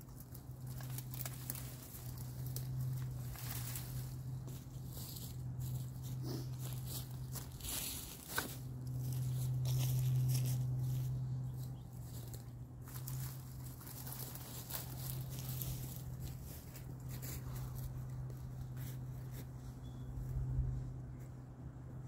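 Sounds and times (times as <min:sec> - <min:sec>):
footsteps crunching dry leaves: 0:00.0 - 0:19.8
dry brush rustling: 0:00.0 - 0:21.4
steady low hum: 0:00.0 - 0:22.0.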